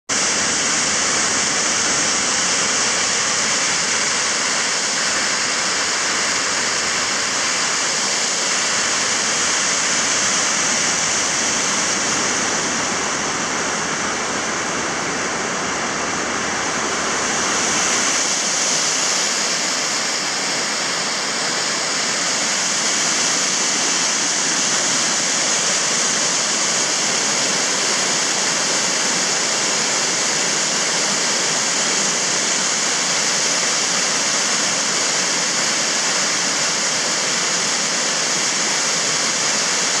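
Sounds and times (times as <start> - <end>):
waterfall rushing: 0.1 - 40.0.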